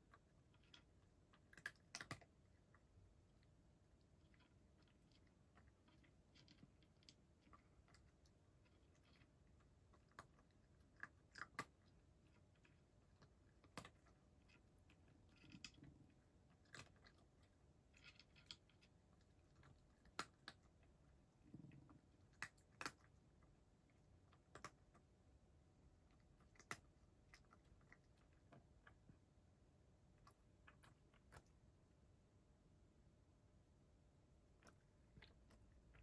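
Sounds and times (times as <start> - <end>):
cat chewing crunchy food: 0.0 - 25.2, 25.9 - 29.2, 30.0 - 31.6, 34.5 - 36.0.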